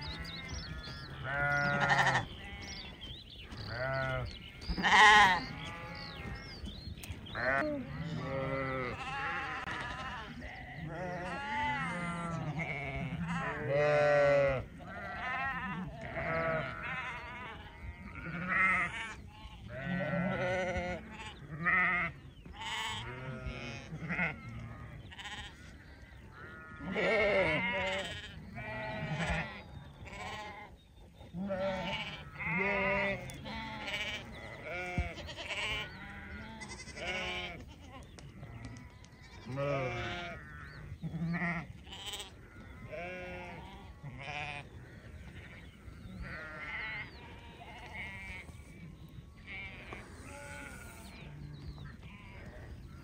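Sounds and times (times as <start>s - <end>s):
sheep bleating: 0.0s - 2.9s, 3.7s - 6.5s, 7.4s - 30.7s, 31.4s - 38.1s, 38.7s - 48.6s, 49.5s - 53.0s.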